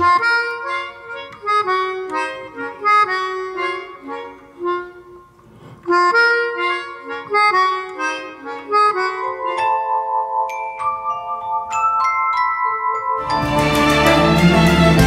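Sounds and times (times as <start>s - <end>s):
reedy instrument melody: 0.0s - 15.0s.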